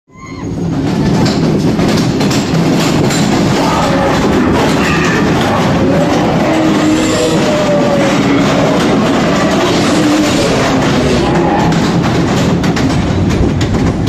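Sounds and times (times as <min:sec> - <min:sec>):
ride car rattling on track: 0:00.1 - 0:14.0.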